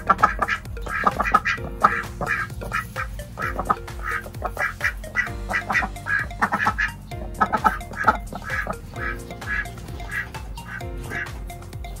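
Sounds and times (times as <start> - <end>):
background music: 0.0 - 12.0
ducks quacking: 0.0 - 12.0.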